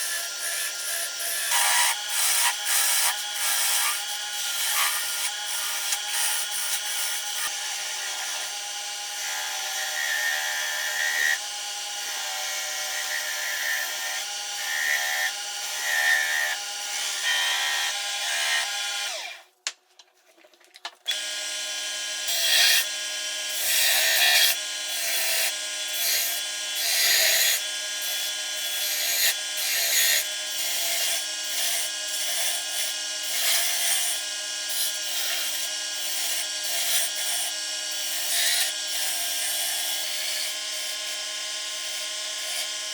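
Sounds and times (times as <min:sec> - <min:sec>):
power tool working wood: 0:00.0 - 0:19.4, 0:21.1 - 0:42.9.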